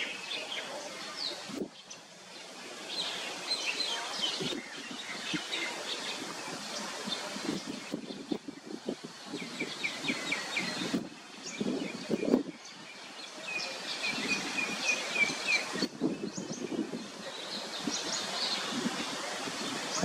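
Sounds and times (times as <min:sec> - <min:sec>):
birds chirping: 0:00.0 - 0:20.0
wind noise on microphone: 0:01.2 - 0:01.8, 0:03.4 - 0:20.0.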